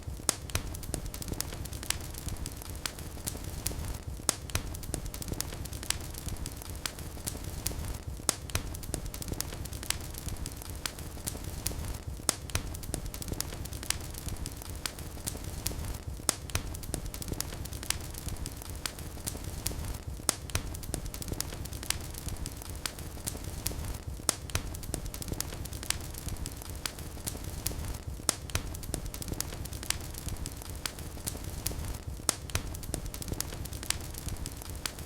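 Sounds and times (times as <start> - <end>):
fireplace fire crackling: 0.0 - 35.0.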